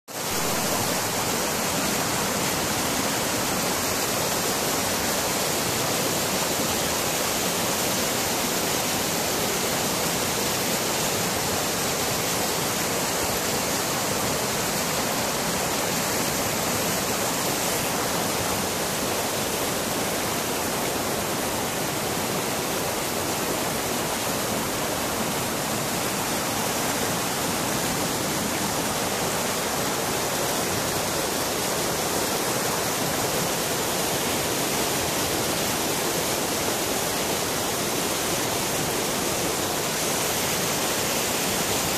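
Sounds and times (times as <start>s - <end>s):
river water rushing over rocks: 0.1s - 41.9s.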